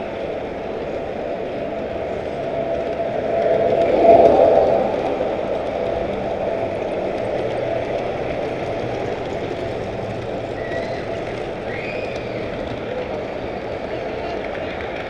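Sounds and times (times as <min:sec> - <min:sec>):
model train passing: 0:00.0 - 0:15.0
model train wheels rolling: 0:00.0 - 0:15.0.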